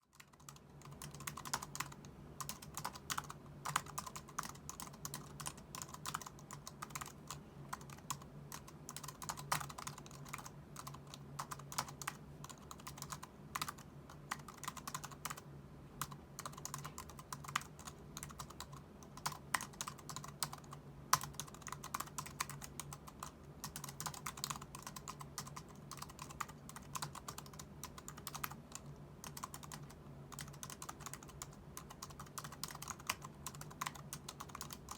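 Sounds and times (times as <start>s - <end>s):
typing on a keyboard: 0.0s - 15.4s, 16.0s - 34.9s.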